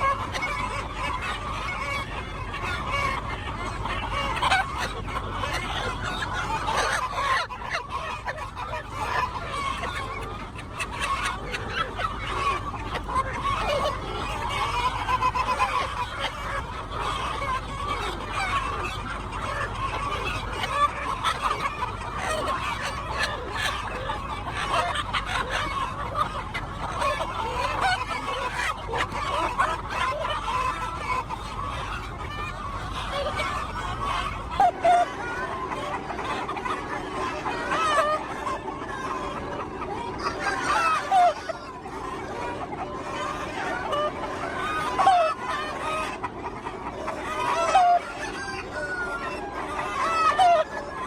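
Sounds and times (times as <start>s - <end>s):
chickens clucking: 0.0s - 51.0s.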